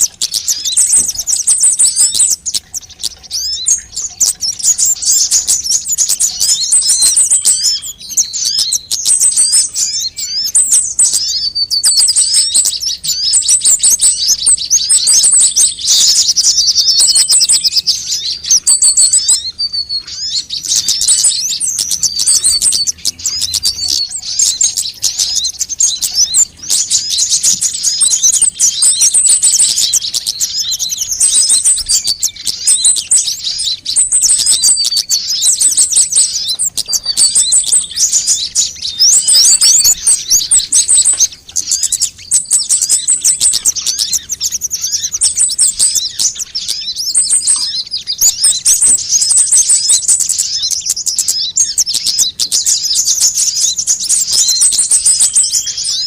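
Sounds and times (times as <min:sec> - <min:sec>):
birds chirping and twittering: 0:00.0 - 0:56.0
thin bird trills: 0:00.0 - 0:56.0.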